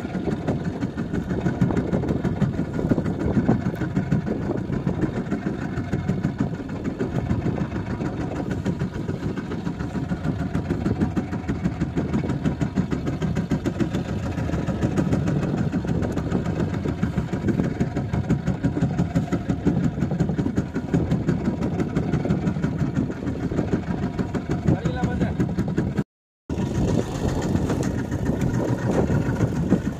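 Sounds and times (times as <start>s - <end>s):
boat engine idling: 0.0s - 29.9s.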